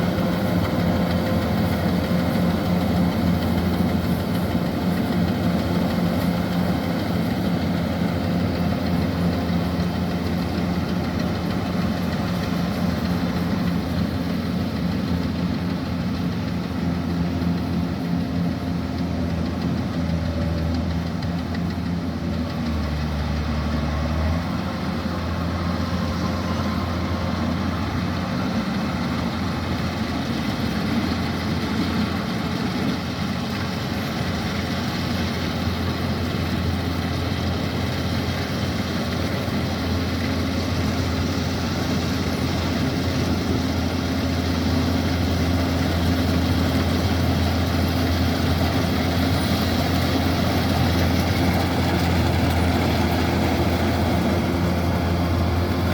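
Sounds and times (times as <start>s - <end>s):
combine harvester engine droning: 0.0s - 55.9s.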